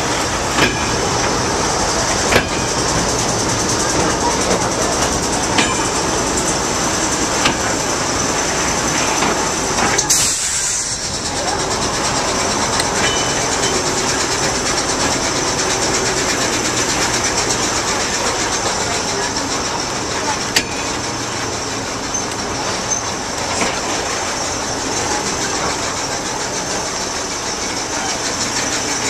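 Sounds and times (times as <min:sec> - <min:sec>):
train rolling with rumble and rattle: 0:00.0 - 0:29.0
wheels clicking on track: 0:00.0 - 0:29.0.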